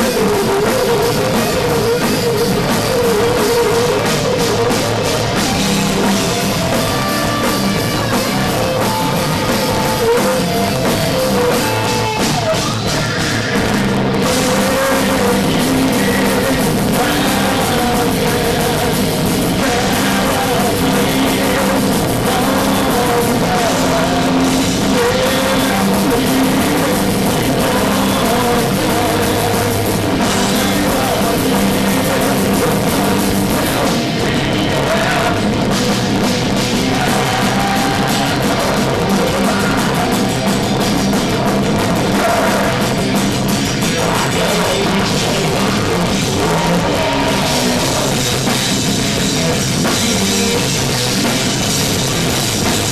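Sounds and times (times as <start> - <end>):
heavy metal band playing live: 0.0 - 52.9.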